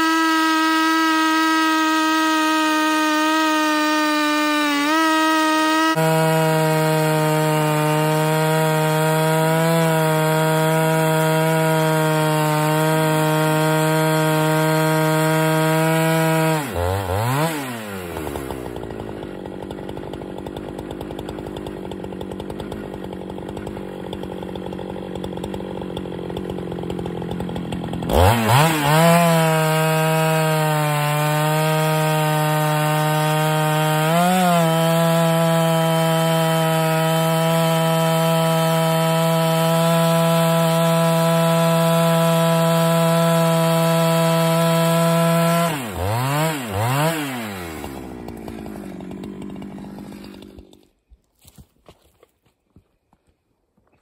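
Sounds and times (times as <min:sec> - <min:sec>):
chainsaw cutting log: 0:00.0 - 0:52.0.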